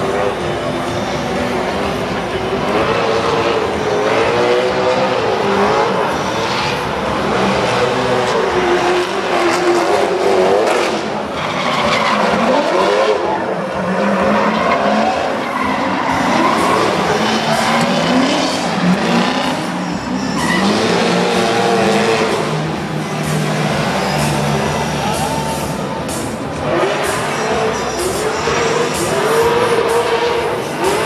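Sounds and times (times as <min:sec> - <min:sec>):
car engines revving: 0:00.0 - 0:31.0
tyres squealing: 0:05.2 - 0:31.0.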